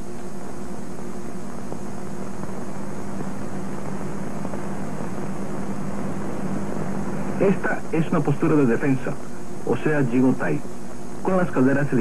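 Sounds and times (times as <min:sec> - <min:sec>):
film soundtrack hum and hiss: 0:00.0 - 0:12.0.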